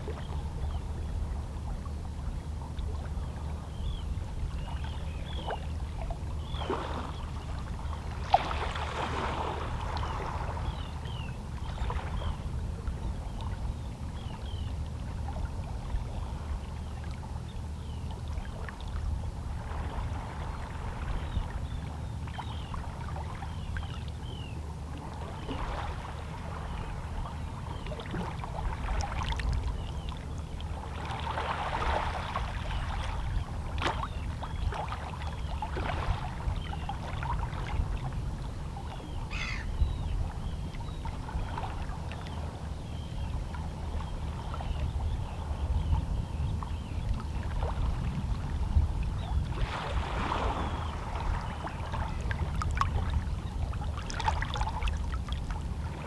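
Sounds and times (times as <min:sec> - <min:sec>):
low rumble of the sea: 0:00.0 - 0:56.0.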